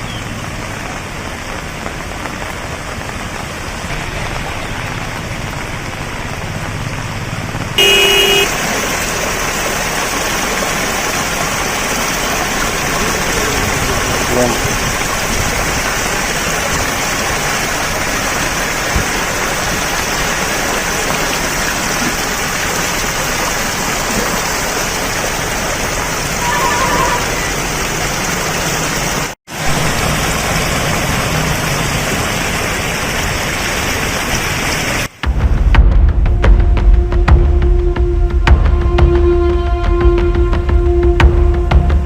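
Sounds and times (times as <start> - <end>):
rushing water: 0.0 - 36.1.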